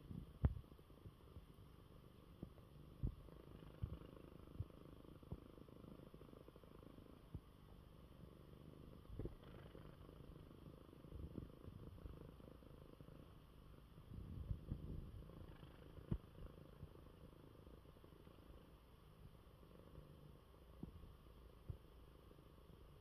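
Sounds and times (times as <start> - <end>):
cat purring: 0.0 - 23.0.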